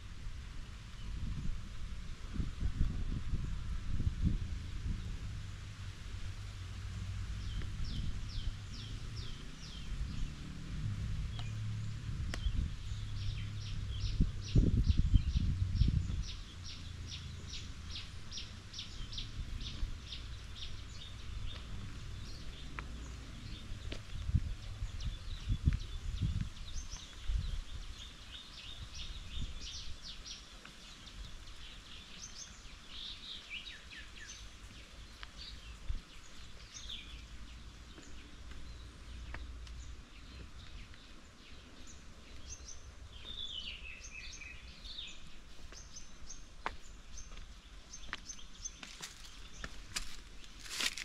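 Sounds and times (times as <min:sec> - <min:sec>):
outdoor background hiss: 0:00.0 - 0:51.0
small birds chirping: 0:06.1 - 0:51.0.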